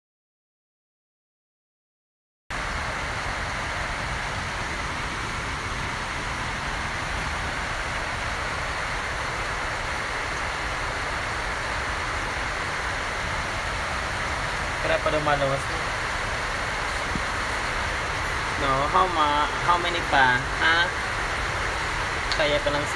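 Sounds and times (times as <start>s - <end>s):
steady hiss of noise: 2.5s - 22.9s.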